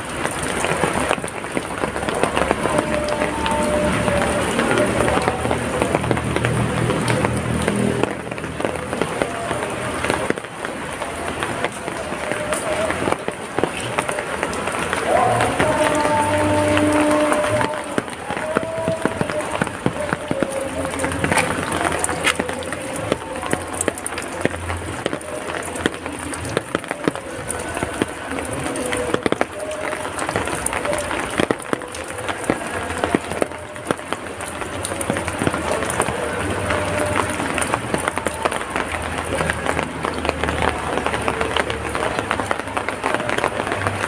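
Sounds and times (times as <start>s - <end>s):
drops and drips striking: 0.0s - 44.0s
heavy rain falling: 0.0s - 44.0s.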